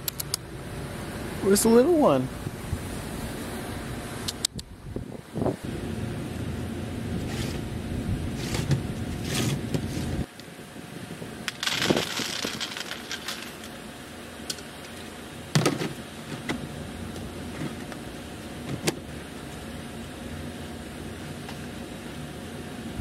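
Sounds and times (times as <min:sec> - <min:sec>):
low background rumble: 0:02.2 - 0:23.0.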